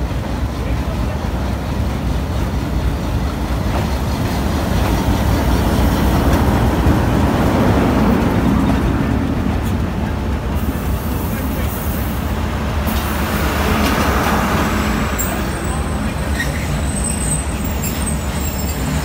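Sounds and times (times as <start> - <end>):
locomotive rumbling past: 0.0 - 19.0
train coaches rolling on rails: 0.0 - 19.0.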